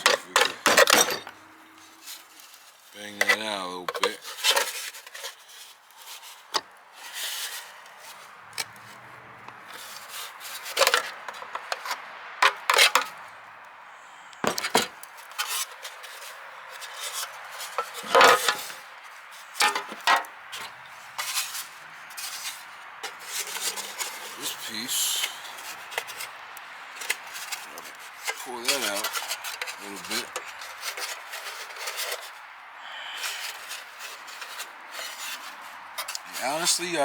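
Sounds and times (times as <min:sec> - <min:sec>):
metal scraping and handling: 0:00.0 - 0:13.4, 0:14.0 - 0:37.0.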